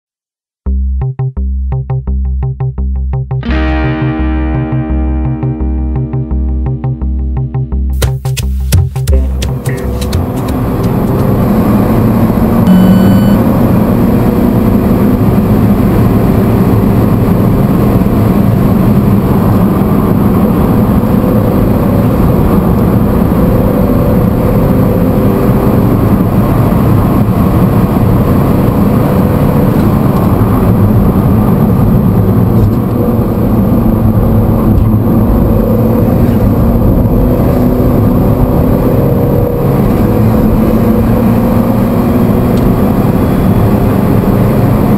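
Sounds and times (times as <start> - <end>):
car engine driven hard: 1.8 - 44.9.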